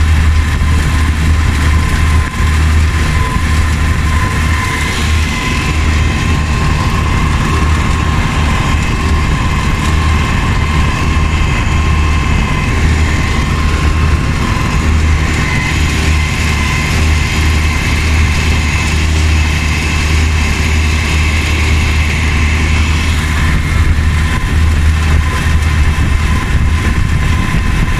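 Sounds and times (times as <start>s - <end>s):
boat engine running steadily: 0.0s - 27.9s
steady high whine: 0.0s - 27.9s.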